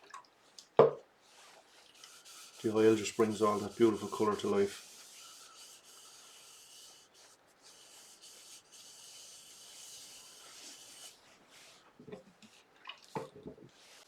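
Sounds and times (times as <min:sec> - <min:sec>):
faint hand rubbing oil on wood: 0:01.3 - 0:12.7, 0:13.7 - 0:14.0.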